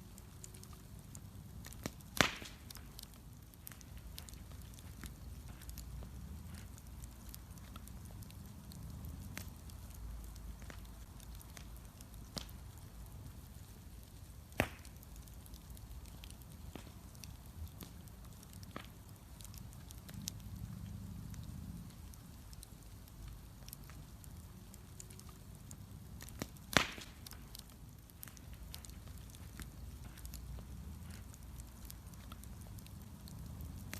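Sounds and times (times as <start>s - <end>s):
bonfire crackling: 0.0s - 33.9s
fire rumbling: 0.0s - 33.9s
fire sharp pops: 0.1s - 33.9s.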